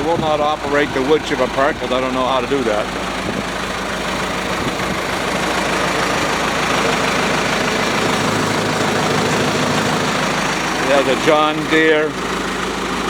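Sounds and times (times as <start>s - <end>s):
wood chipper diesel engine idling: 0.0s - 13.0s.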